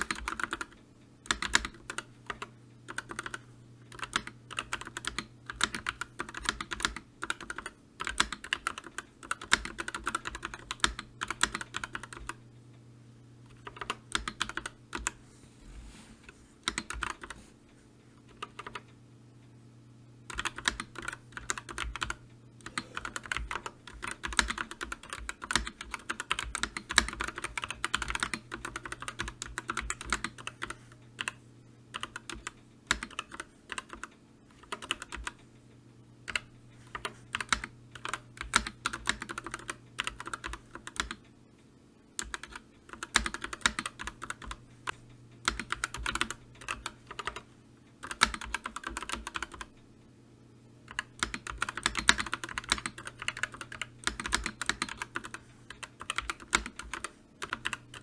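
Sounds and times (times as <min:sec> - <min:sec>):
computer keyboard typing: 0:00.0 - 0:12.4, 0:13.5 - 0:15.2, 0:16.6 - 0:17.4, 0:18.2 - 0:19.0, 0:20.3 - 0:35.5, 0:36.2 - 0:41.3, 0:42.2 - 0:49.8, 0:50.8 - 0:58.0
faint low hum: 0:00.0 - 0:58.0.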